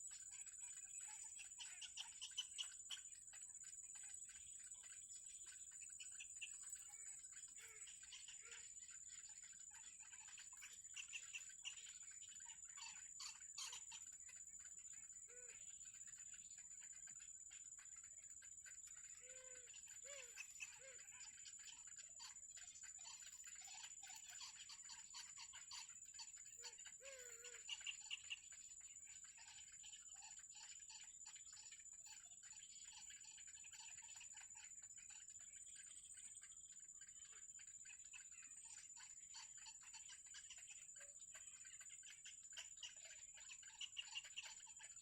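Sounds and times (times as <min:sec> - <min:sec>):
insects droning: 0:00.0 - 0:45.0.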